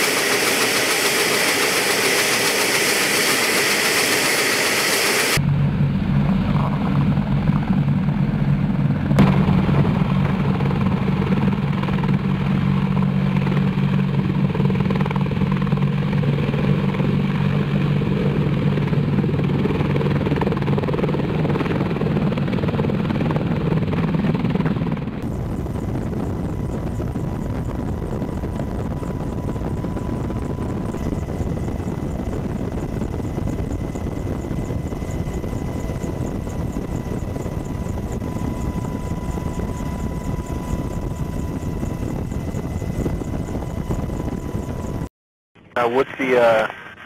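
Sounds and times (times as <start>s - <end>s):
helicopter rotor and engines drone: 0.0s - 47.0s.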